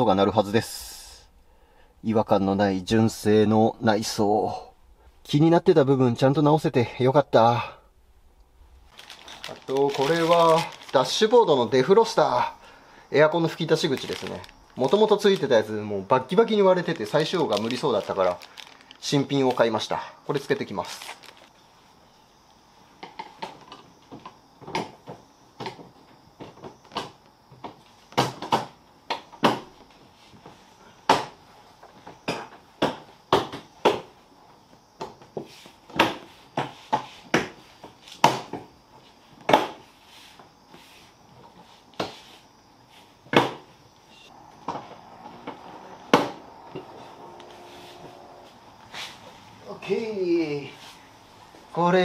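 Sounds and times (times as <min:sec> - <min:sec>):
faint steady hum: 0:00.0 - 0:36.6, 0:38.7 - 0:52.0.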